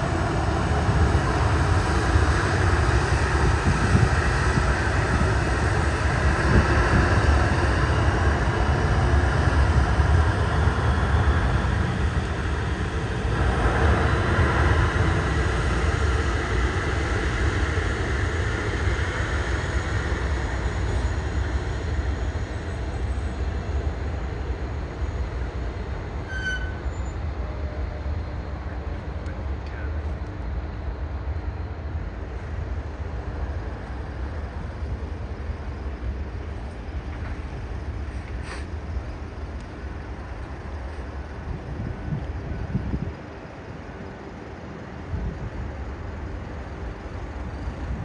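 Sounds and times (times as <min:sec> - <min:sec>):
jet engines at takeoff power: 0:00.0 - 0:48.0.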